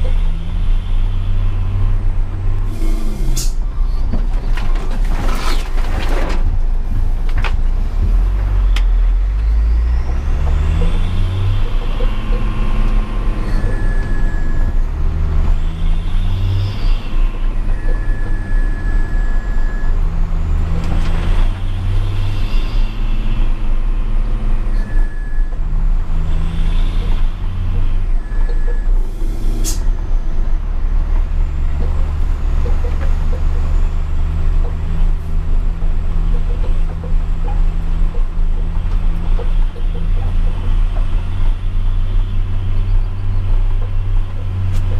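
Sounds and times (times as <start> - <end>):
diesel truck engine revving: 0.0 - 5.7, 6.5 - 44.9.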